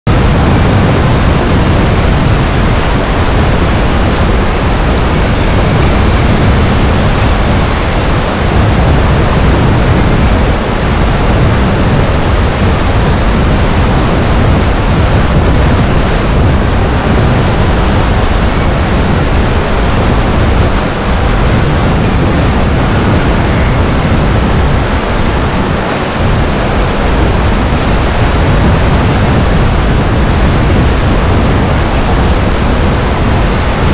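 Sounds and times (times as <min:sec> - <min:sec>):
wind over microphone: 0:00.0 - 0:33.9.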